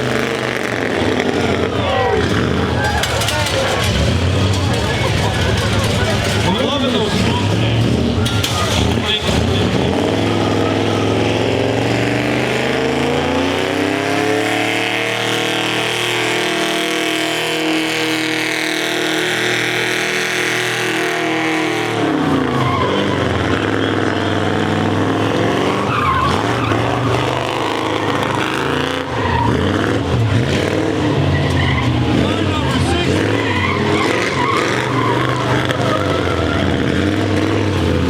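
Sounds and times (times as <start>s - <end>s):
car engine revving: 0.0s - 38.0s
tyres squealing on pavement: 0.0s - 38.0s.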